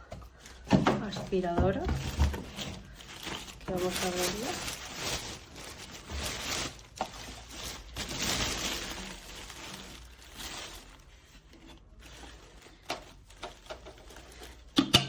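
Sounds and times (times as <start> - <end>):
packaging rustling: 0.0 - 14.8.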